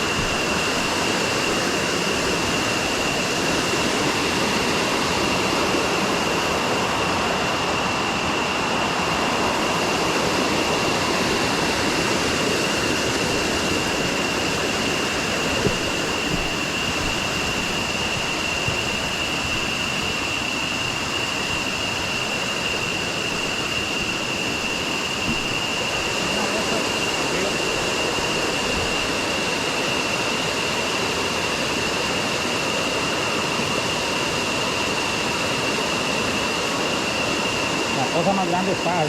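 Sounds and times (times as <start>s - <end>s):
water rushing roar: 0.0s - 39.0s.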